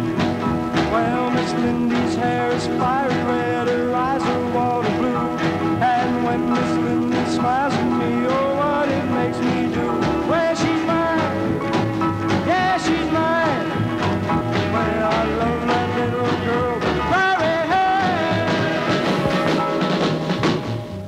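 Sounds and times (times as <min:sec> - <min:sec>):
rock and roll band playing: 0:00.0 - 0:21.0
sliding lead guitar line: 0:00.0 - 0:21.0.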